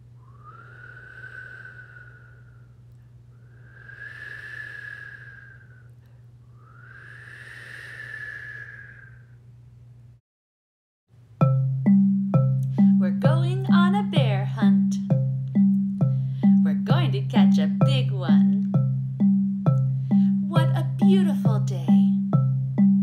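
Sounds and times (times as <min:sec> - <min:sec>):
steady low hum: 0:00.0 - 0:10.2, 0:11.2 - 0:23.0.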